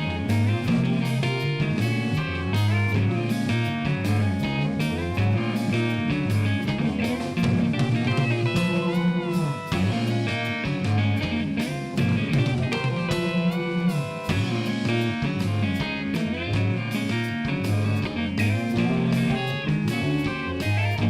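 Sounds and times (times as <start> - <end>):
bass: 0.0 - 21.0
drums: 0.0 - 21.0
electric guitars: 0.0 - 21.0
guitar note bent up and down: 0.0 - 21.0.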